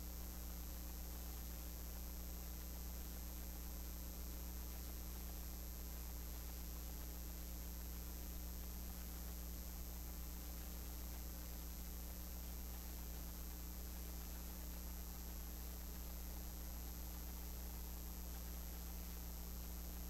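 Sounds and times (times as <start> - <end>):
constant hiss: 0.0 - 20.0
electrical mains hum: 0.0 - 20.0.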